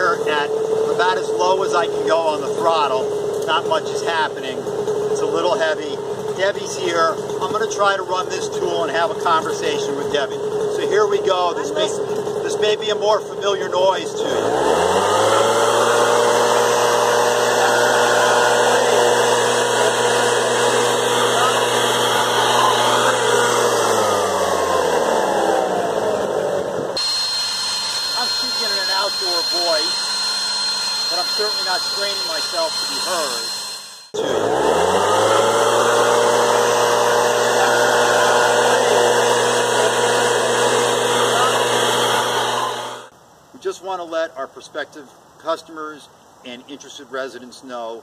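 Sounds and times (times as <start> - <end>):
leaf blower running: 0.0 - 43.1.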